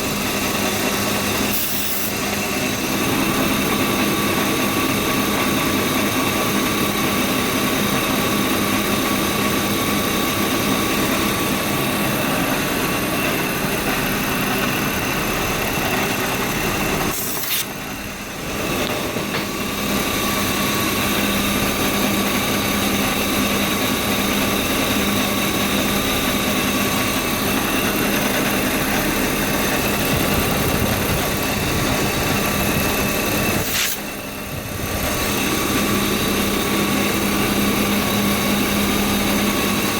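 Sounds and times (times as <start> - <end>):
car engine idling: 2.2 - 39.9.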